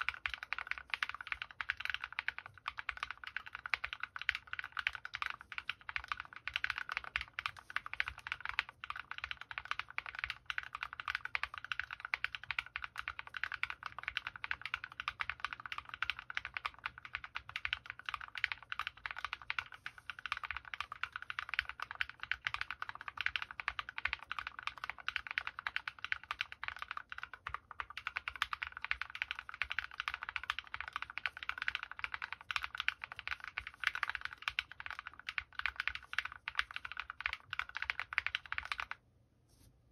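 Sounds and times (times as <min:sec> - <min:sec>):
fast mechanical keyboard typing: 0:00.0 - 0:39.0.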